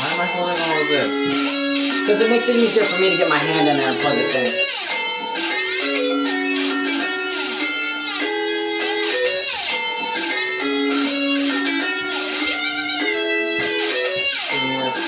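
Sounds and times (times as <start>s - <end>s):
guitar-led music: 0.0s - 15.0s.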